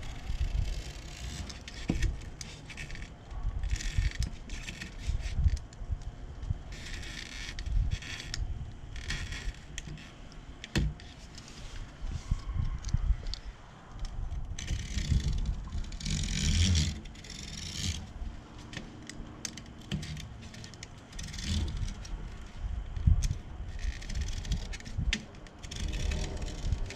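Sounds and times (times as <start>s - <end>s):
rustling and scraping: 0.0s - 26.9s.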